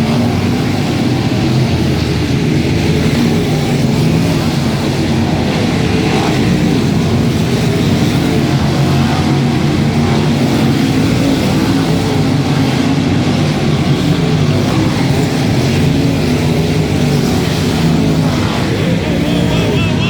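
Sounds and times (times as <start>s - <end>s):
race car engines droning: 0.0s - 20.0s.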